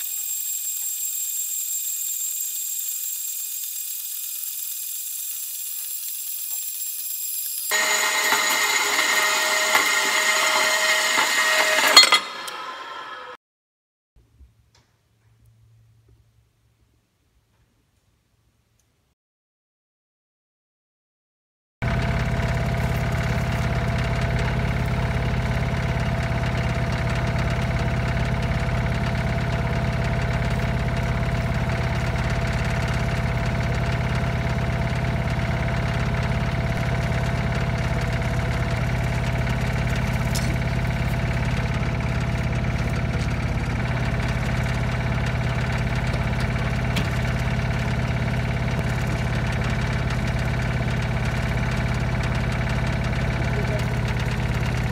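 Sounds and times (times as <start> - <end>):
small engine idling: 0.0 - 13.4, 21.8 - 54.9.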